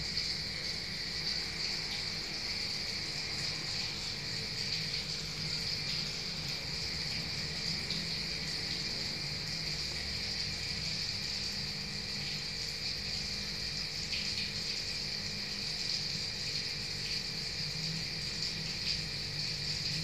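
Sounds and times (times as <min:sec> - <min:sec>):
bubbling trickling water: 0:00.0 - 0:20.0.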